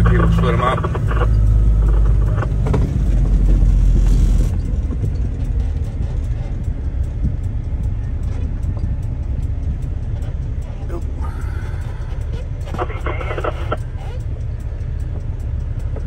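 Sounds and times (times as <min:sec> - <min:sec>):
heavy truck rumbling on highway: 0:00.0 - 0:16.0.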